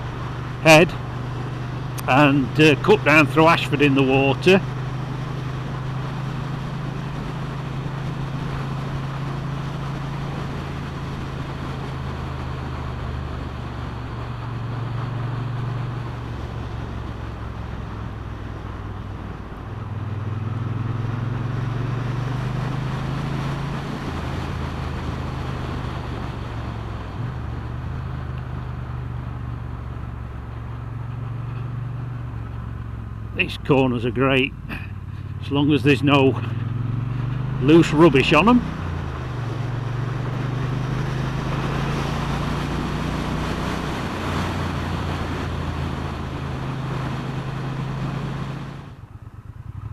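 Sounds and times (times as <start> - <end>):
motorcycle engine running: 0.0 - 49.9
wind and road noise: 0.0 - 49.9.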